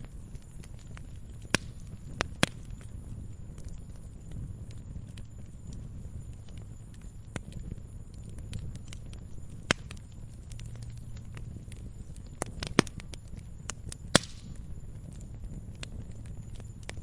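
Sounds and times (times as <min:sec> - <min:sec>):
campfire crackling: 0:00.0 - 0:17.0
low rumble of flames: 0:00.0 - 0:17.0.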